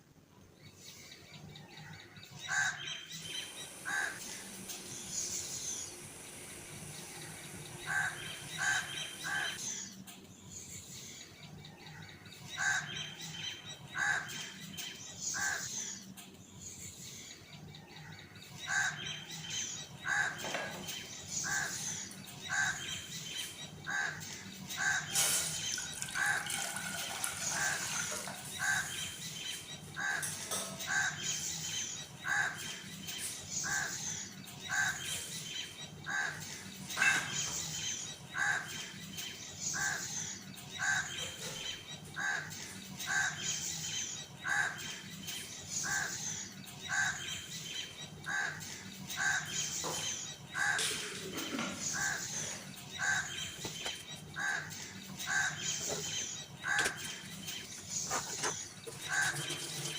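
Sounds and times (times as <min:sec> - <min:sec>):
birds calling: 0:00.6 - 0:59.9.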